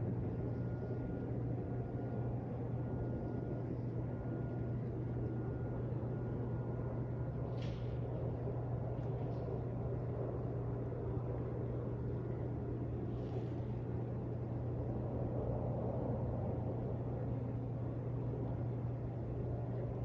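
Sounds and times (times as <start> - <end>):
constant low hum: 0.0 - 20.0.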